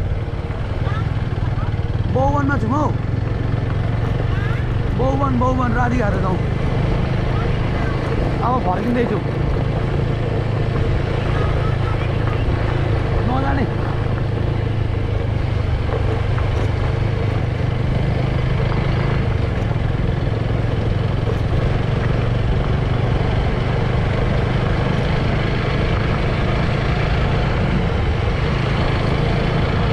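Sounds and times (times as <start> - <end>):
motorbike engine running: 0.0 - 29.9
road noise: 0.0 - 29.9.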